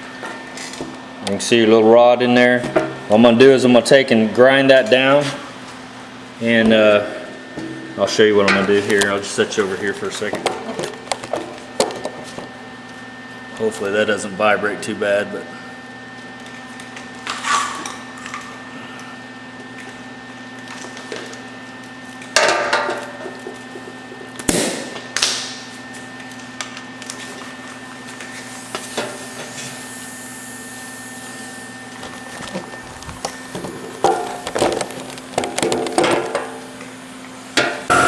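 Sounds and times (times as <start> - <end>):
workshop hum: 0.0 - 38.0.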